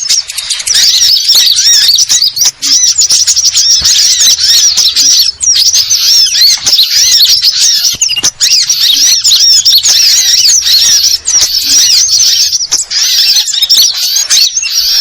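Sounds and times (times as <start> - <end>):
songbirds chorus twittering: 0.0 - 15.0.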